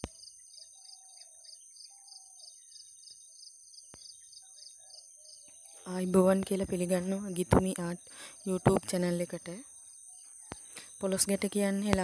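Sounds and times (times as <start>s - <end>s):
pulsing insect trill: 0.1s - 12.0s.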